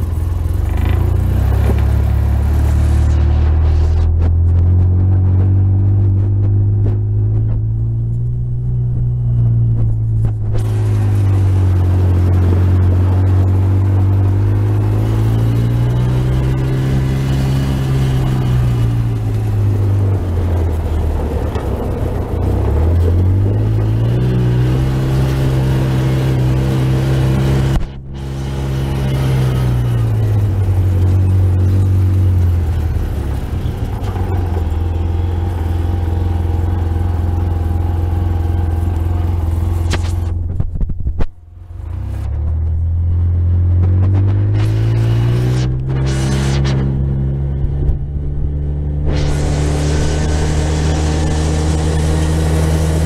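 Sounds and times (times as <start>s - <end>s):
rushing wind and road noise: 0.0s - 53.0s
vehicle engine running: 0.0s - 53.0s.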